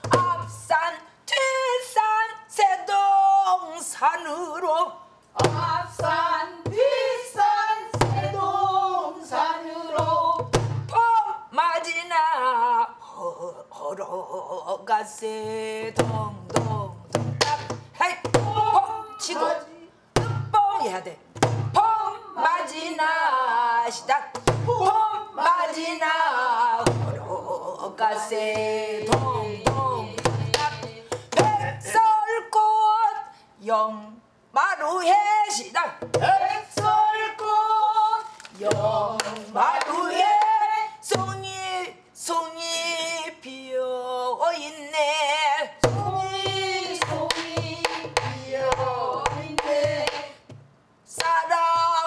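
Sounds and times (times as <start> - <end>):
woman singing with ornamented voice: 0.0 - 50.5, 51.1 - 52.0.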